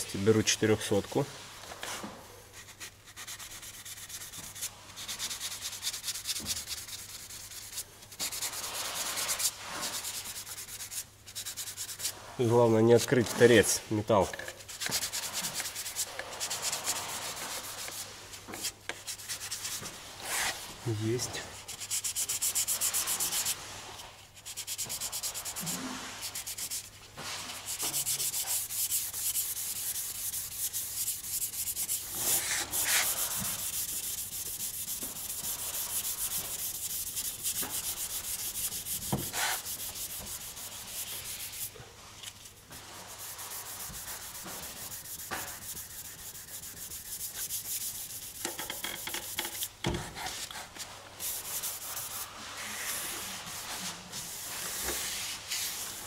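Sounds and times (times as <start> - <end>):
hand sanding metal: 2.6 - 13.8, 14.6 - 41.8, 42.7 - 56.0.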